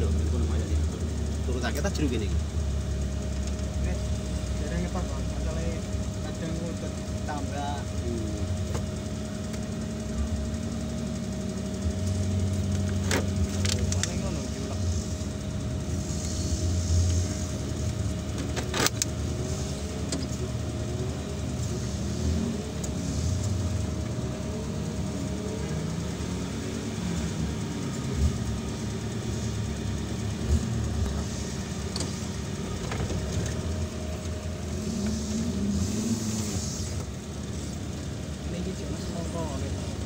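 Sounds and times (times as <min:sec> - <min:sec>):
engine running at low revs: 0:00.0 - 0:40.0.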